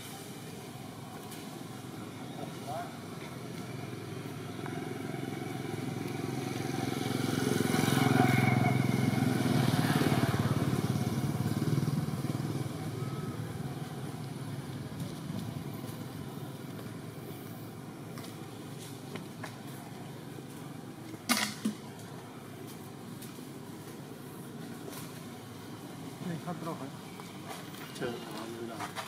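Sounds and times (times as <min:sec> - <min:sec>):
passing vehicle engine hum: 0:00.0 - 0:29.0.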